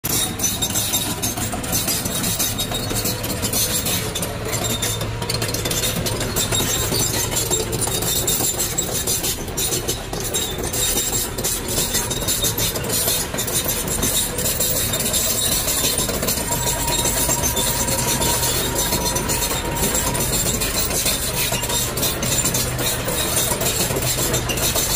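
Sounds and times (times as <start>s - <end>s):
excavator diesel engine running: 0.0s - 24.9s
track chains clanking: 0.0s - 24.9s.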